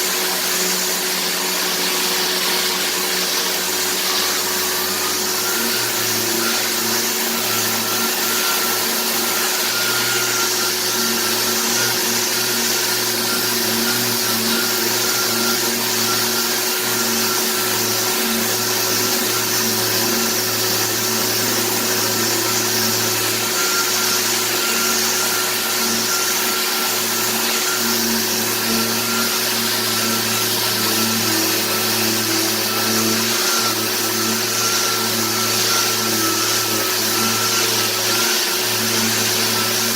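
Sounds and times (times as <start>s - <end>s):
electric sander humming: 0.0s - 39.9s.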